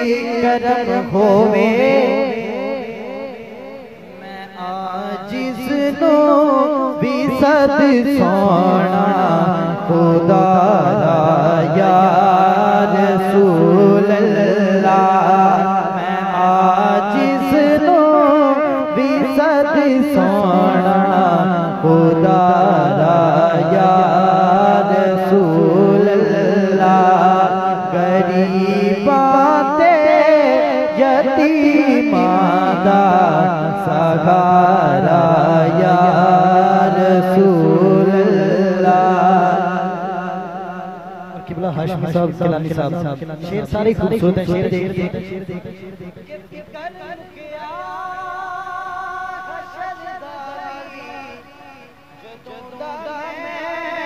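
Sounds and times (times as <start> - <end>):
young man singing into microphone: 0.0 - 54.0.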